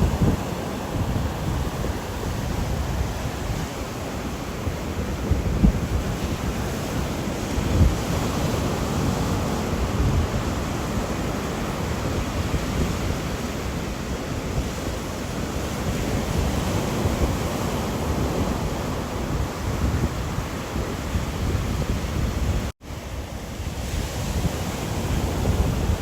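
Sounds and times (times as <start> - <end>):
wind and rain in a storm: 0.0 - 26.0.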